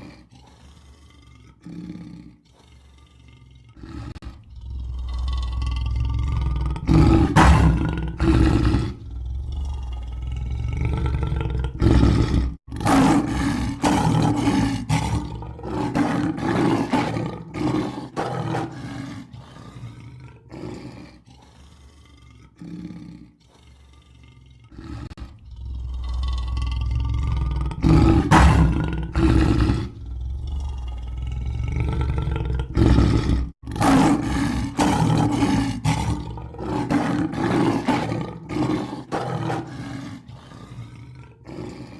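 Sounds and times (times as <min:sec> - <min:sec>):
lion roaring: 0:00.0 - 0:41.9.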